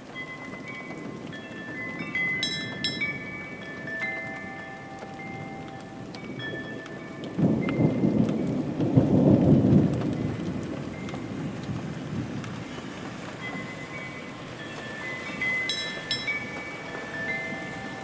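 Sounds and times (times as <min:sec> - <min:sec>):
steady rain: 0:00.0 - 0:18.0
thunder rumbling: 0:00.9 - 0:18.0.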